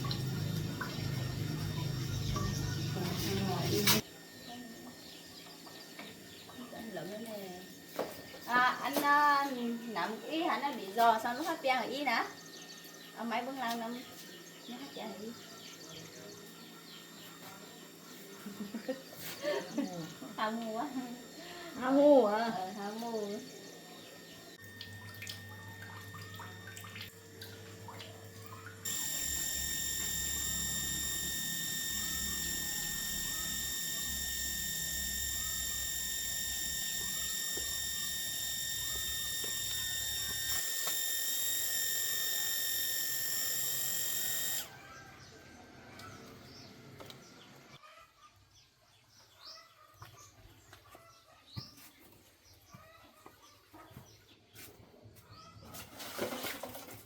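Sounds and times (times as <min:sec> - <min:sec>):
water pump humming and whining: 0:00.0 - 0:47.8.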